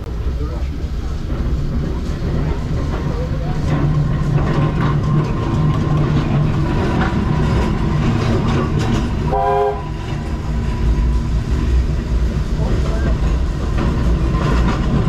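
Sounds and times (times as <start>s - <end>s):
clattering over rails: 0.0s - 15.0s
tram hum: 0.0s - 15.0s.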